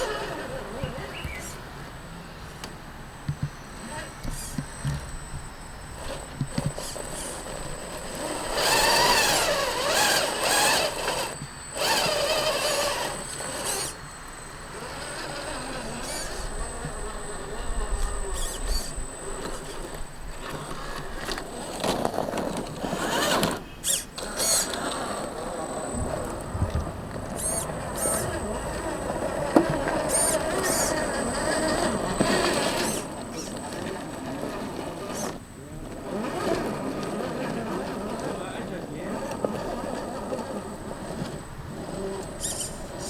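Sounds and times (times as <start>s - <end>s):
rc car motor whining: 0.0s - 43.0s.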